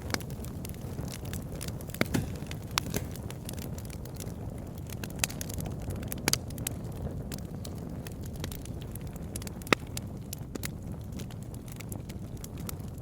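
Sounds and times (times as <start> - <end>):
burning wood popping and crackling: 0.0 - 13.0
campfire flames rumbling: 0.0 - 13.0.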